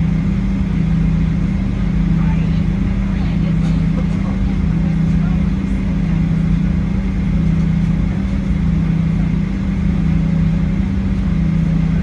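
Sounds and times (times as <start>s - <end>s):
aircraft engine drone in cabin: 0.0s - 12.0s.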